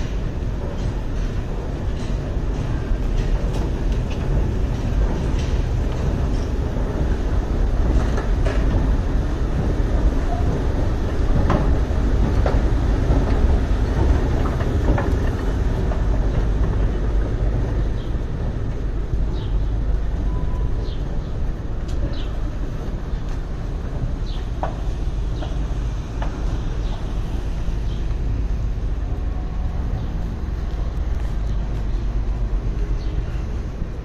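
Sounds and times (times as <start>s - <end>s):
low machinery rumble: 0.0s - 34.0s.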